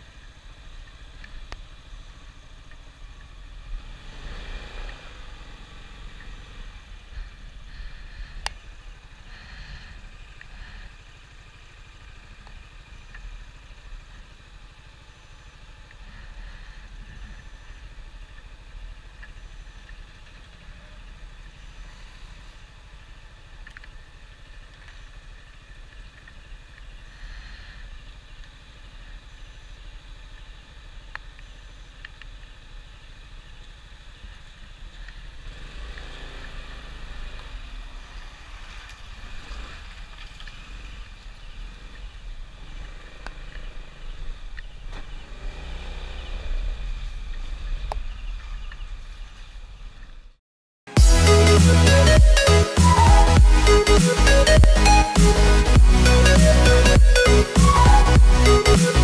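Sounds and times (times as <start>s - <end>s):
scooter engine running: 0.0s - 48.4s
road noise on wet road: 0.0s - 50.4s.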